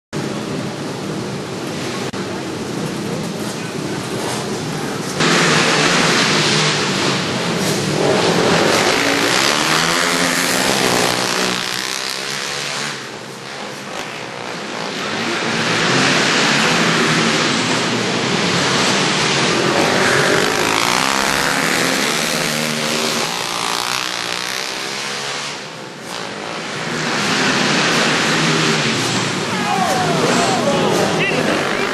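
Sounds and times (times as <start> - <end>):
racing quad engines revving: 0.2 - 31.9.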